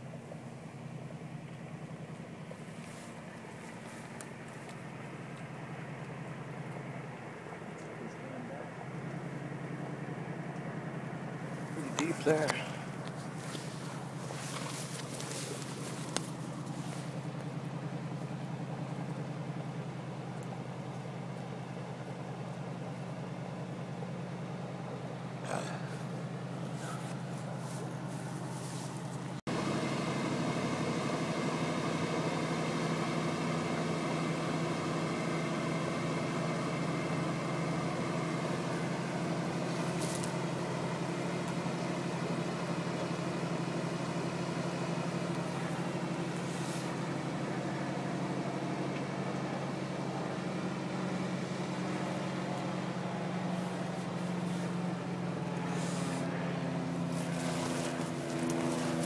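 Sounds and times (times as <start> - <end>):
vehicle engine humming steadily: 0.0 - 59.0.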